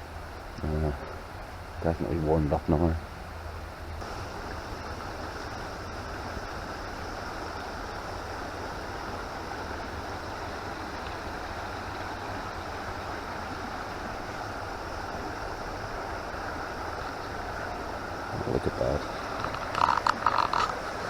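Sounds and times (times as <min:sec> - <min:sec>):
river water flowing over rocks: 0:00.0 - 0:21.0.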